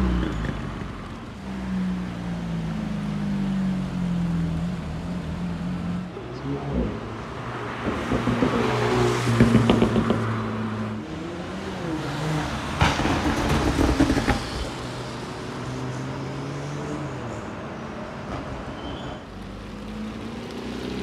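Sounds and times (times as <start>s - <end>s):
car engines driving off: 0.0s - 21.0s.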